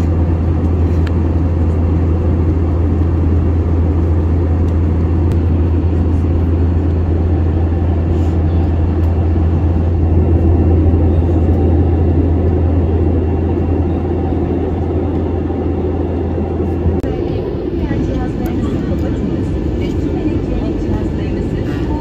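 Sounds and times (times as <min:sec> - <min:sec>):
jet airliner cabin drone: 0:00.0 - 0:22.0.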